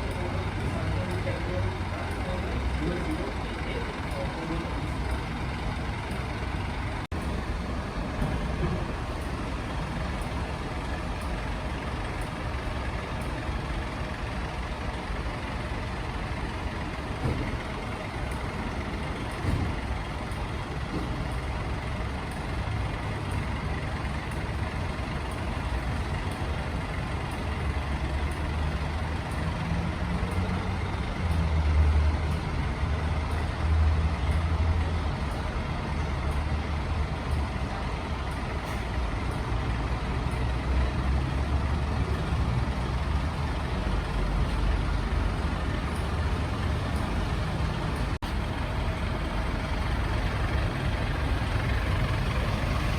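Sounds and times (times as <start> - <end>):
truck diesel engine rumbling: 0.0 - 52.9.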